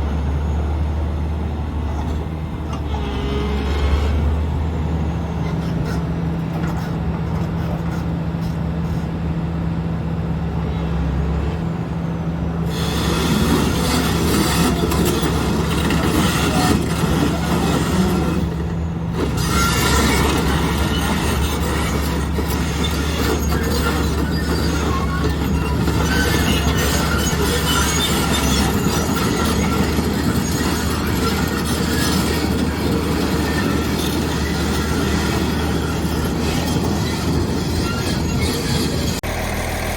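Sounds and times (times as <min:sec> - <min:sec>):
diesel engine running: 0:00.0 - 0:39.9
metal tracks squealing and clanking: 0:01.9 - 0:09.3, 0:12.7 - 0:39.9.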